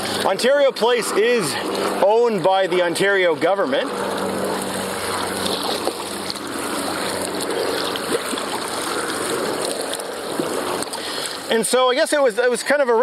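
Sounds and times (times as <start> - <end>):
paddle blades dipping and dripping: 0.0 - 13.0
water washing past hull: 0.0 - 13.0.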